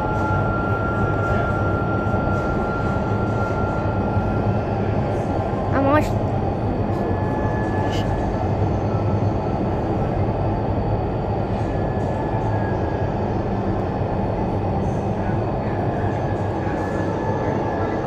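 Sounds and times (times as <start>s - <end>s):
faint high whine: 0.0s - 18.0s
wind tunnel fans roaring: 0.0s - 18.0s.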